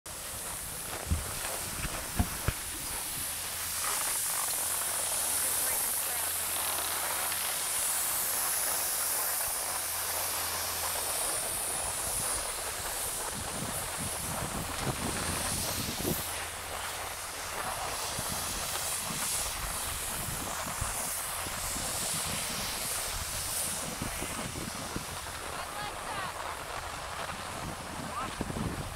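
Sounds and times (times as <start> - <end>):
wind rumble on microphone: 0.1 - 4.9, 10.4 - 28.9
skis hissing on packed snow: 0.1 - 28.9.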